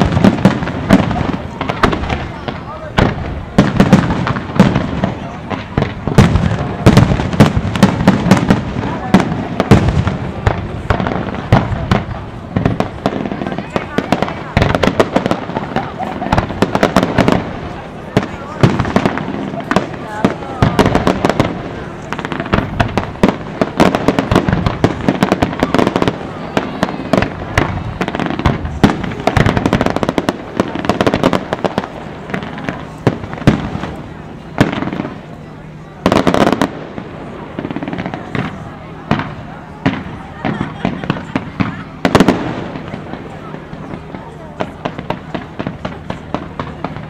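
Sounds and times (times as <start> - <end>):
fireworks bursting: 0.0 - 47.0.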